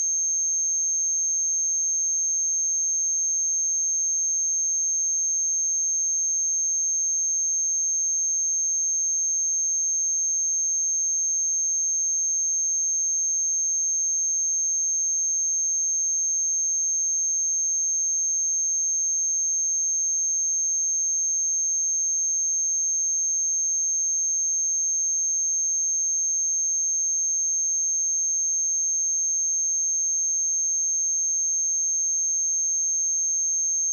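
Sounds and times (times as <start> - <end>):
high-pitched sine test tone: 0.0 - 33.9.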